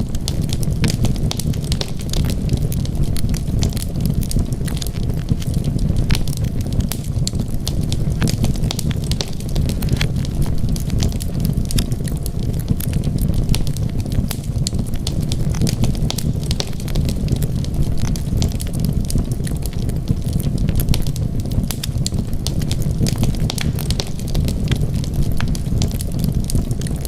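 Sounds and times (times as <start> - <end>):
low rumble: 0.0 - 27.0
wood fire crackling: 0.0 - 27.0.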